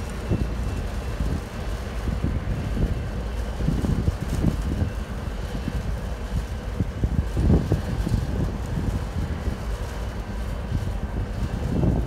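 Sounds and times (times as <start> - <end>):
freight train cars rolling: 0.0 - 12.0
wind buffeting microphone: 0.0 - 12.0.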